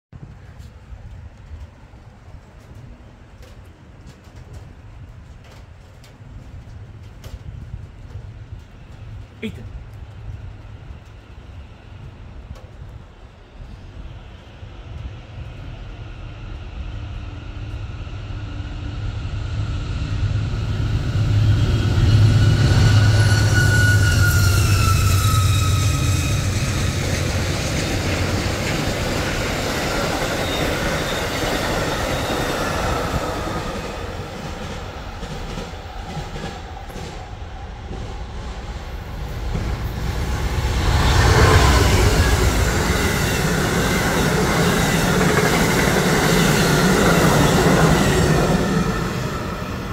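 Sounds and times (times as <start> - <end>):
trains rumbling and clattering past: 0.2 - 49.9.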